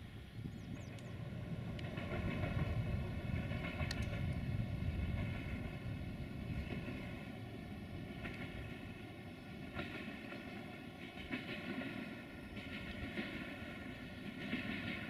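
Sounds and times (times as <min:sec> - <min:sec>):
diesel train rumbling: 0:00.0 - 0:15.0.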